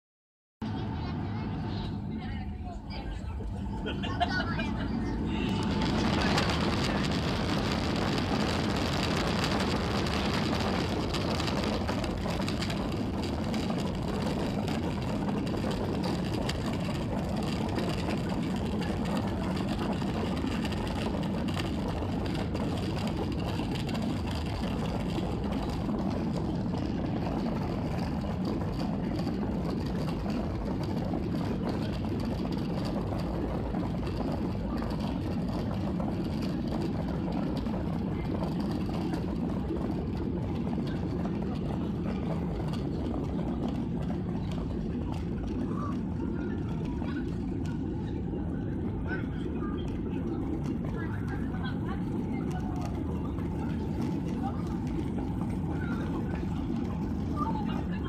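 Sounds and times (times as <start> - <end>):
aircraft engine hum and rumble: 0.6 - 58.0.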